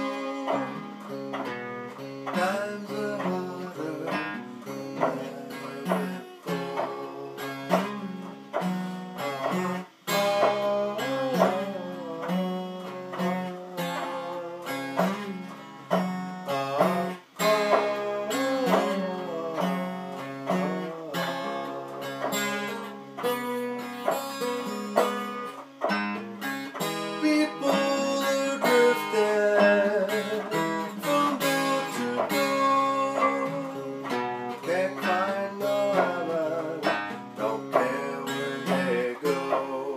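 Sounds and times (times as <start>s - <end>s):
fingerpicked blues acoustic guitar: 0.0s - 39.9s.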